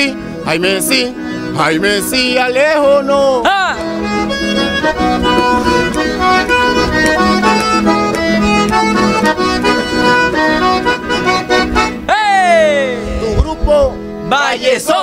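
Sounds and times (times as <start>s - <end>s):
button accordion melody: 0.0s - 15.0s
steady bass: 1.8s - 14.3s.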